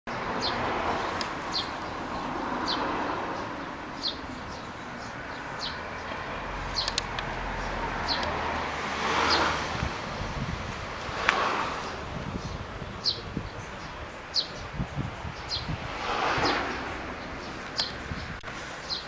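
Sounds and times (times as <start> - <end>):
bird chirping: 0.1 - 19.0
outdoor background hiss: 0.1 - 19.0.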